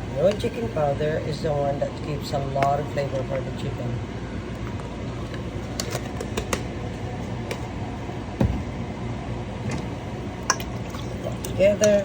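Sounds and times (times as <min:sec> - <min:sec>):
fan-like hum: 0:00.0 - 0:12.0.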